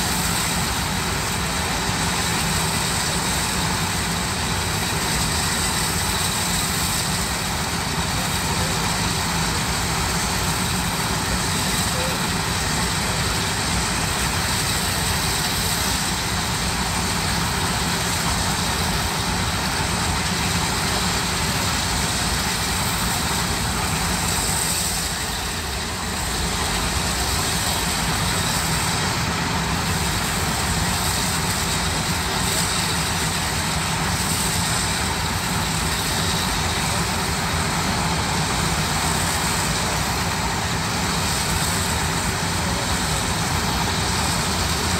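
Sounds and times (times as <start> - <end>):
steam hiss: 0.0 - 44.9
steam shovels rumbling: 0.0 - 44.9.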